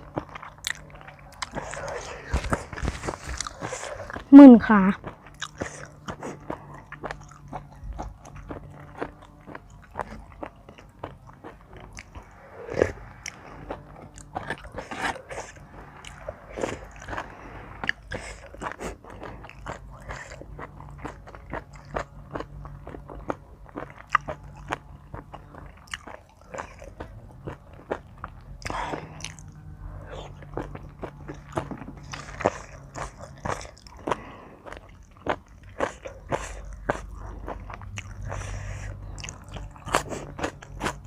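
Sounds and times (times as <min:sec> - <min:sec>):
person chewing and biting food: 0:00.0 - 0:04.3, 0:05.0 - 0:41.0.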